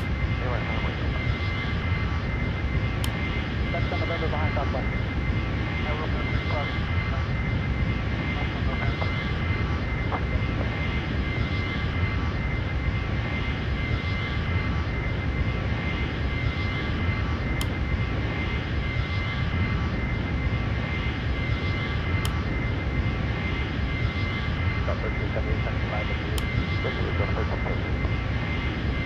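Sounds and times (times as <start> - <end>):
jet engine high whine: 0.0 - 29.0
jet engine rumble: 0.0 - 29.0.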